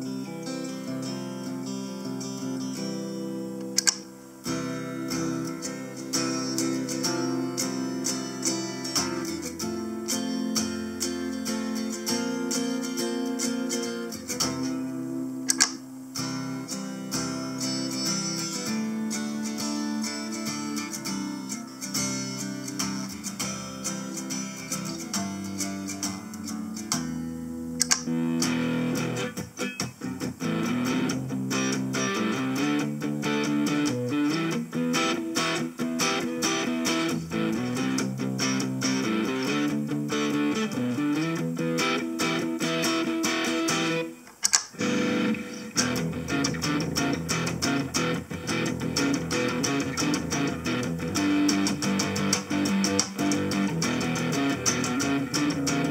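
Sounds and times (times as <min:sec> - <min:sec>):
electric guitar with effects: 0:00.0 - 0:55.9.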